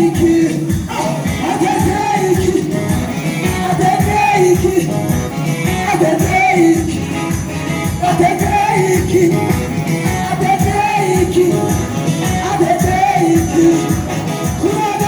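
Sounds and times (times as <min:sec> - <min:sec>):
jingling percussion: 0:00.0 - 0:15.0
person singing melody: 0:00.0 - 0:15.0
steady drum beat: 0:00.0 - 0:15.0.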